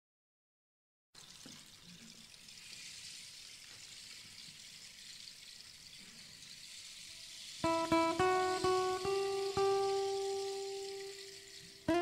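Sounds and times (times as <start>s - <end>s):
faint room tone hiss: 1.2s - 12.0s.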